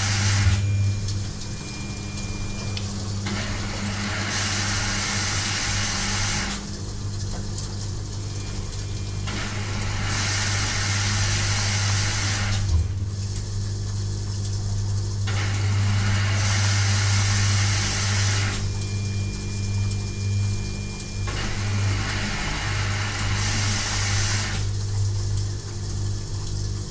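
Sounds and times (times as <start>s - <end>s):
washing machine humming: 0.0s - 26.9s.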